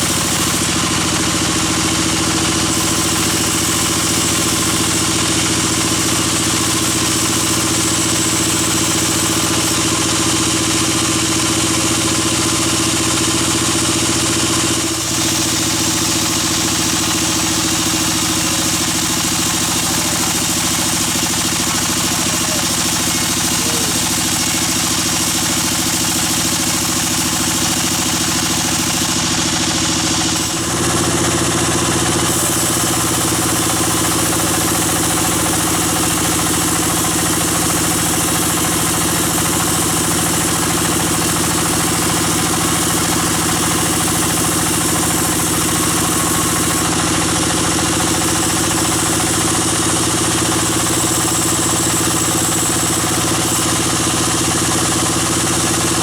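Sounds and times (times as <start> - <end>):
bandsaw machinery humming: 0.0 - 56.0.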